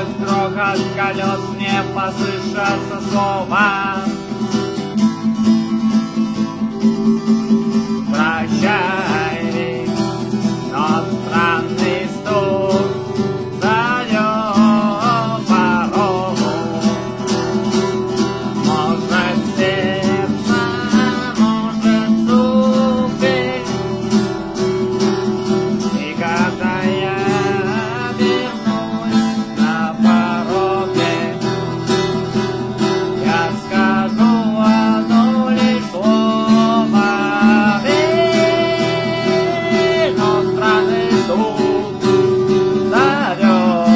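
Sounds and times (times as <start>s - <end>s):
acoustic guitar music: 0.0s - 43.9s.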